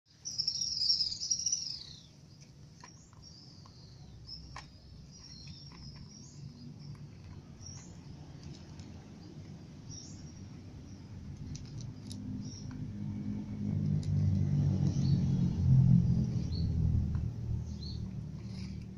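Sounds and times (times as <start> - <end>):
small birds chirping: 0.1 - 18.9
low background rumble: 1.7 - 18.9.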